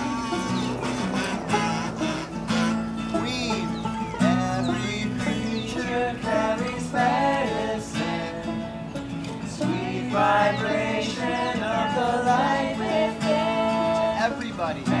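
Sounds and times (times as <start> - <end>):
acoustic guitar strumming: 0.0 - 15.0
group of voices singing: 2.6 - 15.0.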